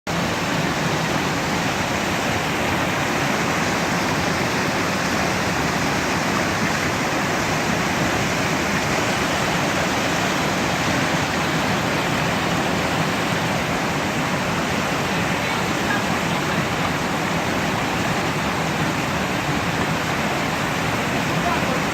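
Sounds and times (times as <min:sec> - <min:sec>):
waterfall rushing: 0:00.1 - 0:21.9.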